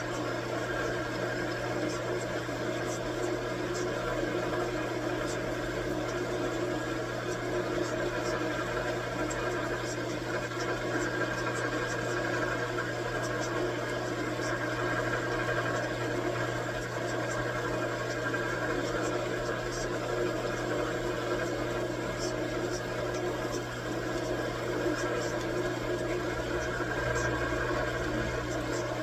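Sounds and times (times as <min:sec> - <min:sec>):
metalworking machine humming: 0:00.0 - 0:29.0.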